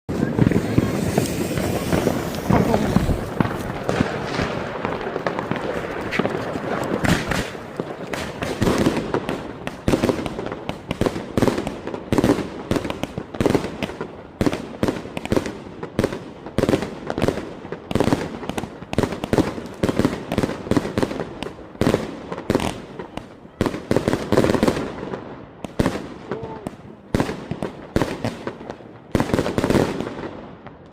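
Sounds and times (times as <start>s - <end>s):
fireworks loud bangs: 0.1s - 30.9s.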